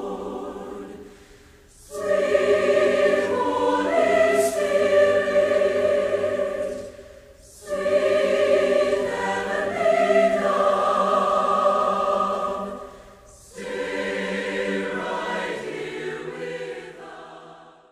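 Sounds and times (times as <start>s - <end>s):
choir singing held chords: 0.0s - 17.9s.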